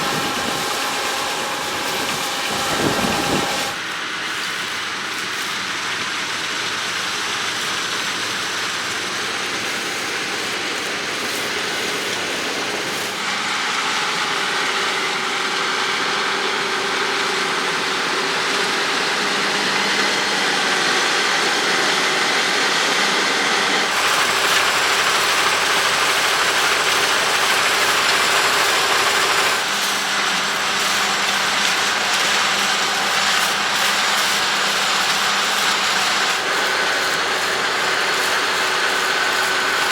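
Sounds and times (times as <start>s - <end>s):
held mechanical whine: 0.0s - 5.8s, 9.5s - 39.9s
combine harvester running: 0.0s - 39.9s.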